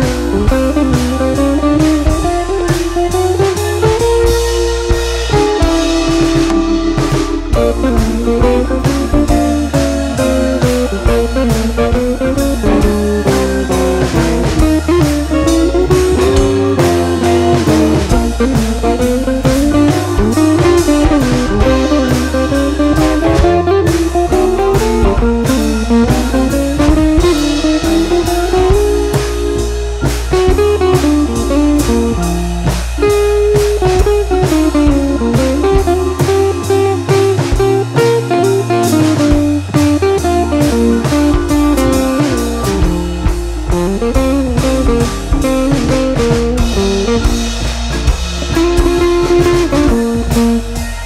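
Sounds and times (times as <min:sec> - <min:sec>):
guitar over drums: 0:00.0 - 0:51.0.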